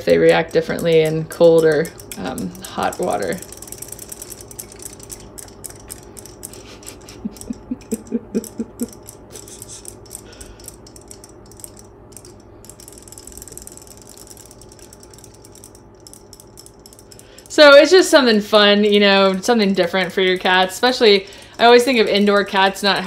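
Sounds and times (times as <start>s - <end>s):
toy motors ticking: 0.0s - 23.0s.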